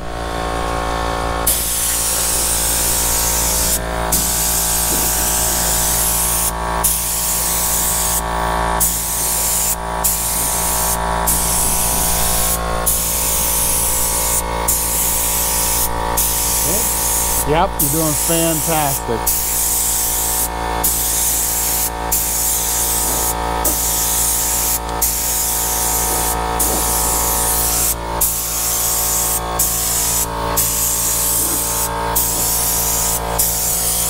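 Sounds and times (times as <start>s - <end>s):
spray gun hissing: 1.5s - 34.0s.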